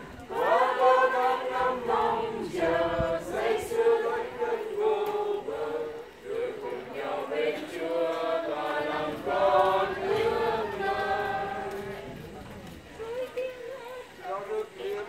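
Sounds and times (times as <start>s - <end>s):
congregation singing a hymn: 0.0s - 15.0s.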